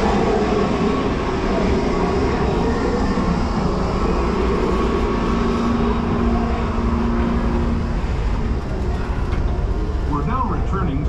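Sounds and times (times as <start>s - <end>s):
low steady hum: 0.0s - 11.0s
train wheels rumbling and rattling: 0.0s - 11.0s.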